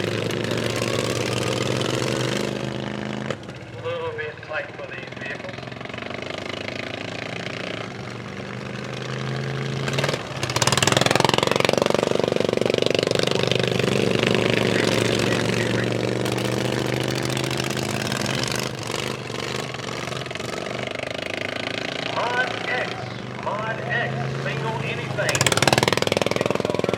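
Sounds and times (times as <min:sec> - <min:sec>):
lawn mower engines running hard: 0:00.0 - 0:26.9.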